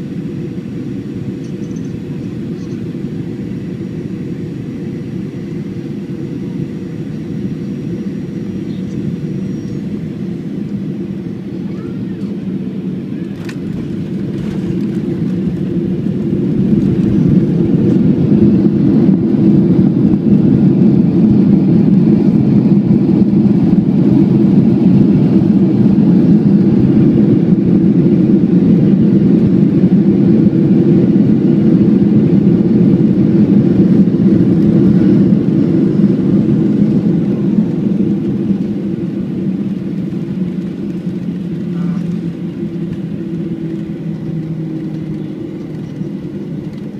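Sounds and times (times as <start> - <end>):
jet engine rumble: 0.0 - 46.9.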